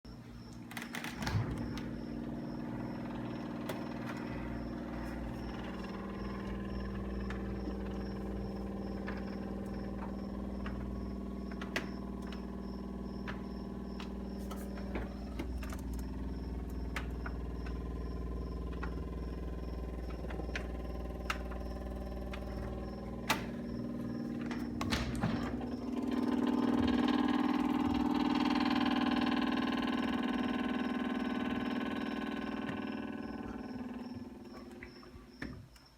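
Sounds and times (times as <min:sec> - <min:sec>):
refrigerator humming and vibrating: 0:00.0 - 0:35.9.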